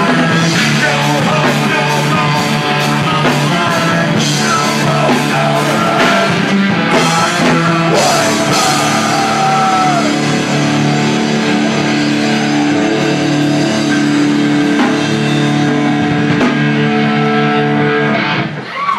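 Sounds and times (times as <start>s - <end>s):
drum kit: 0.0s - 18.6s
distorted electric guitar: 0.0s - 18.9s.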